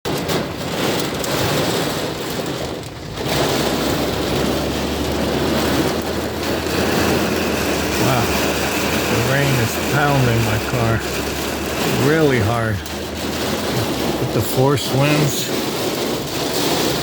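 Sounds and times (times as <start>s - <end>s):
heavy rain on a car: 0.1s - 17.0s.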